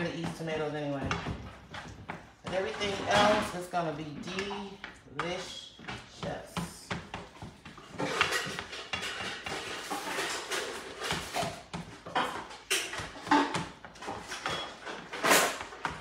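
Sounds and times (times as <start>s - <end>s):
spatula scraping and tapping pan: 0.0s - 16.0s.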